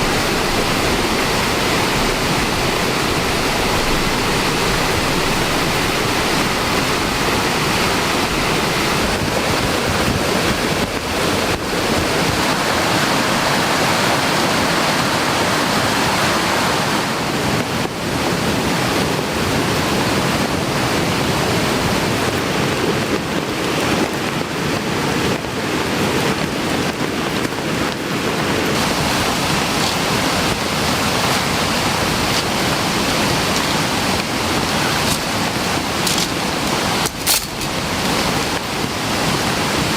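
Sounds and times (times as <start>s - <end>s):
fast-flowing stream: 0.0s - 39.9s
heavy rain rushing: 0.0s - 39.9s.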